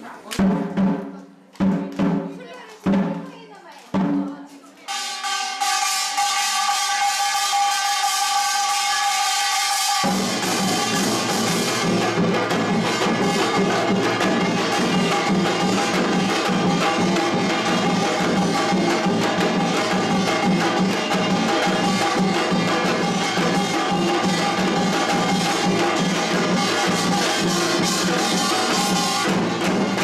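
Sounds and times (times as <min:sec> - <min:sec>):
percussion band playing: 0:00.0 - 0:30.0
ringing metal gongs: 0:04.9 - 0:30.0.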